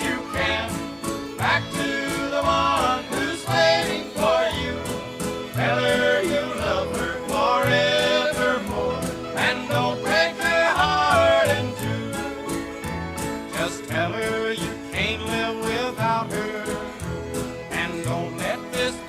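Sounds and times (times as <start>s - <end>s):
country band shuffle beat: 0.0s - 19.0s
lead melody line: 0.0s - 19.0s.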